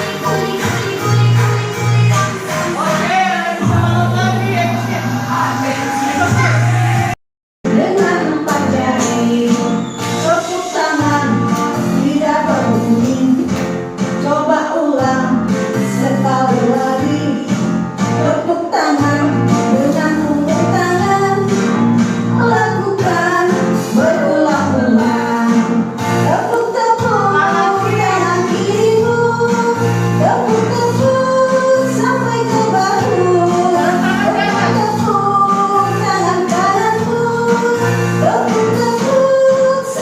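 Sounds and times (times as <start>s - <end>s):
woman singing: 0.0s - 4.4s, 7.7s - 13.6s, 14.2s - 21.8s, 22.4s - 40.0s
instrumental accompaniment: 0.0s - 40.0s.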